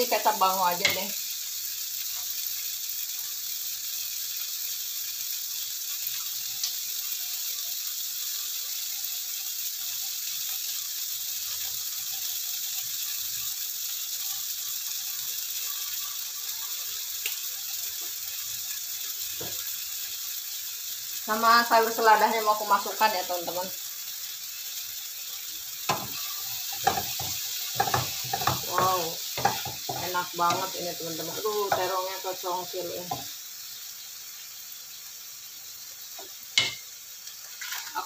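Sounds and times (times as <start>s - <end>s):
food sizzling in a wok: 0.0s - 38.0s.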